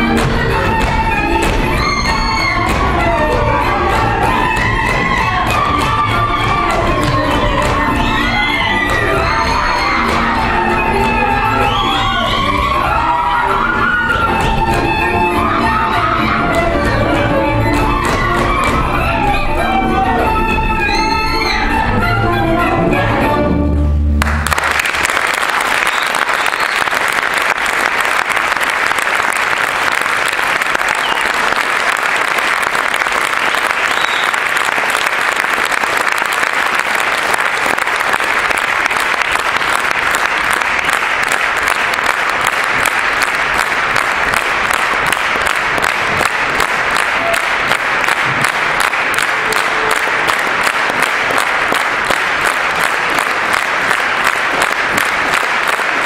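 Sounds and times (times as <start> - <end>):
audience applauding: 0.0 - 18.8, 24.2 - 56.0.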